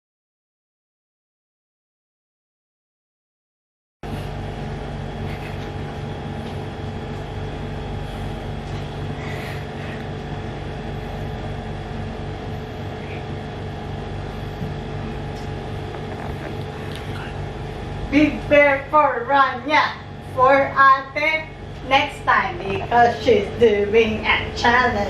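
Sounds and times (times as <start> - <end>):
engine droning: 4.0 - 25.0.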